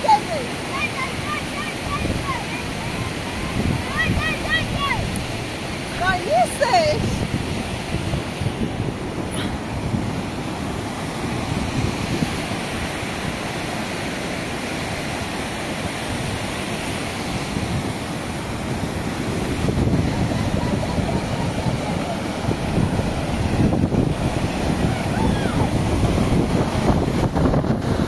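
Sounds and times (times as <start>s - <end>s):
floodwater rushing over rocks: 0.0s - 28.0s.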